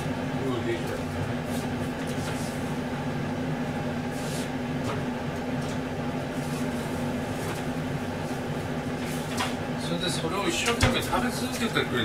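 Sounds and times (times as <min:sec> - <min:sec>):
appliance motor hum: 0:00.0 - 0:12.0.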